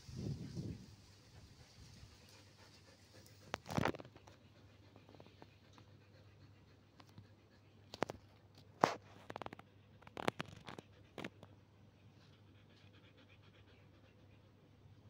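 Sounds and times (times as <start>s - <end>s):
dog panting: 0.2s - 15.0s.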